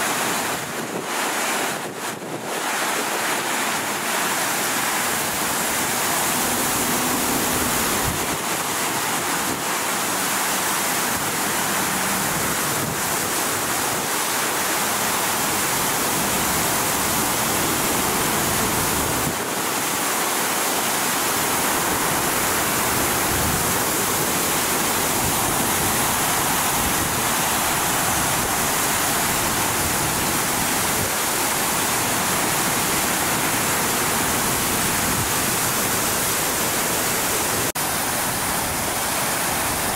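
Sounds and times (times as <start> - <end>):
water gushing from hydrant: 0.0 - 39.9.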